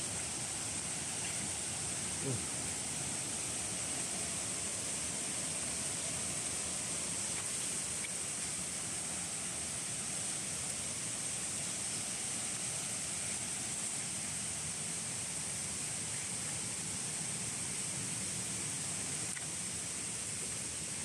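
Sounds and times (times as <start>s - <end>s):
high-pitched hiss: 0.0s - 21.0s.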